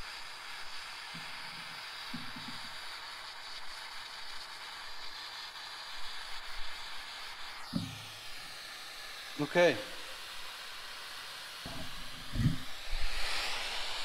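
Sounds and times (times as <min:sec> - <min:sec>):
gas torch hissing: 0:00.0 - 0:14.0.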